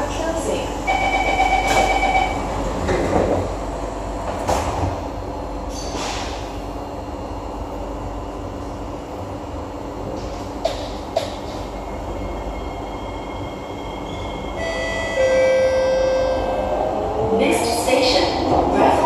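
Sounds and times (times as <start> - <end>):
metro train car hum: 0.0 - 19.0.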